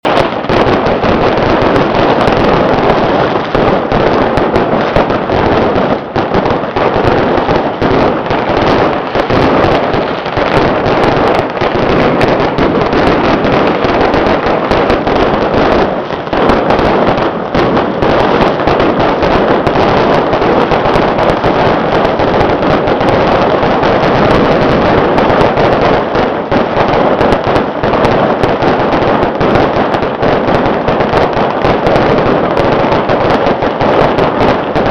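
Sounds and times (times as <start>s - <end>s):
firecrackers crackling: 0.0s - 34.9s.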